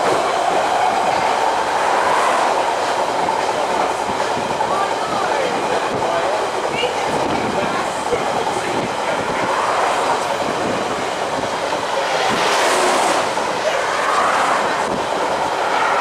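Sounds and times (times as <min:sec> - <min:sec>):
rush of wind and rail noise: 0:00.0 - 0:16.0.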